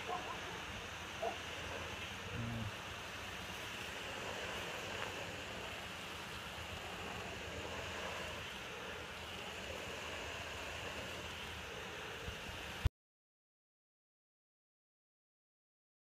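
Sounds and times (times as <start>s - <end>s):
hose water spraying on mat: 0.0s - 12.9s.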